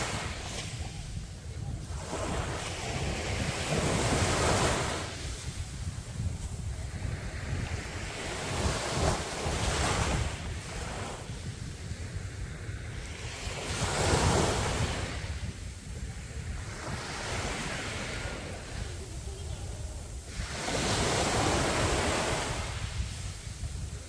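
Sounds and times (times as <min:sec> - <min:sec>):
sea waves breaking on beach: 0:00.0 - 0:24.0
wind rumble on microphone: 0:00.0 - 0:24.0.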